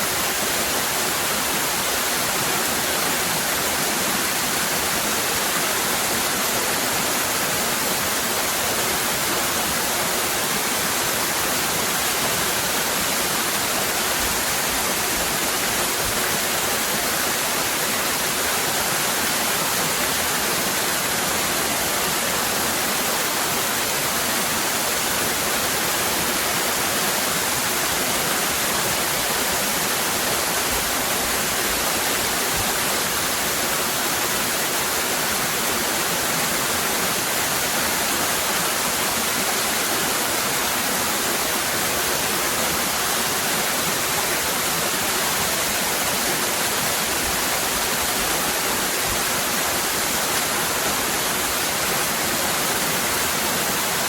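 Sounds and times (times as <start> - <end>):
waterfall cascading: 0.0 - 54.0.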